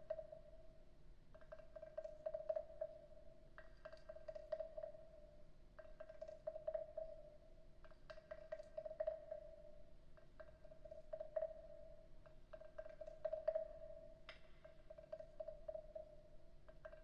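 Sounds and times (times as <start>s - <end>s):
faint steady ring: 0.0s - 17.0s.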